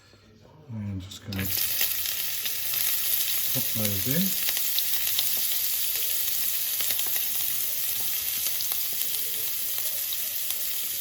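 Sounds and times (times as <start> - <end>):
vegetables sizzling in hot oil: 1.3 - 11.0.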